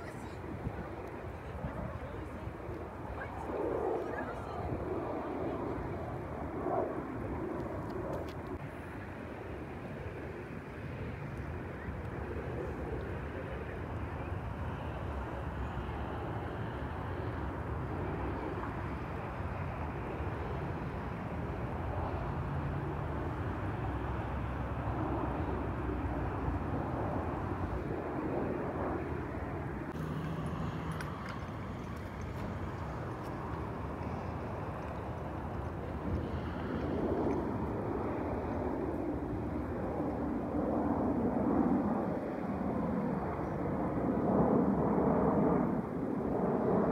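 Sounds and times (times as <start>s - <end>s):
jet engines roaring: 0.0s - 46.9s.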